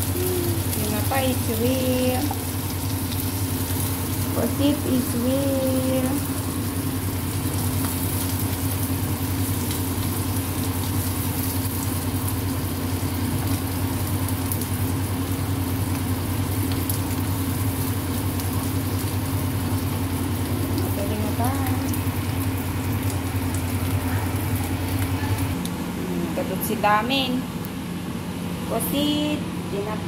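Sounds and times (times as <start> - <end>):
fish sizzling in hot oil: 0.0 - 25.6
steady low hum: 0.0 - 30.0.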